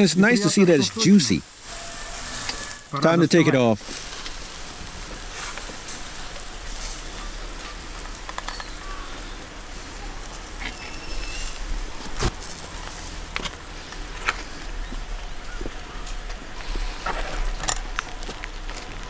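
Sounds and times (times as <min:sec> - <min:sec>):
charcoal grill crackling: 0:00.0 - 0:19.0
kebabs sizzling: 0:00.0 - 0:19.0.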